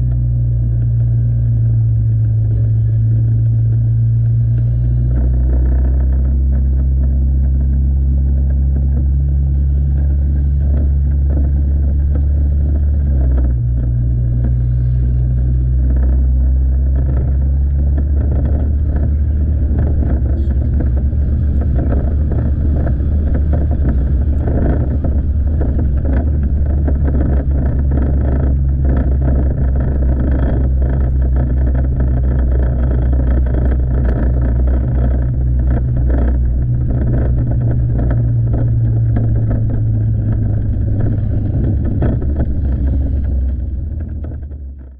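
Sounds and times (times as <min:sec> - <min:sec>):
motorcycle engine running: 0:00.0 - 0:44.9
road and wind noise: 0:00.0 - 0:44.9.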